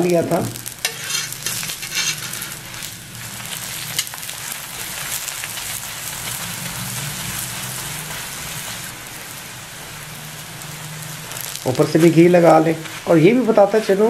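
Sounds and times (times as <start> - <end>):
bread sizzling in fat: 0.0 - 14.0.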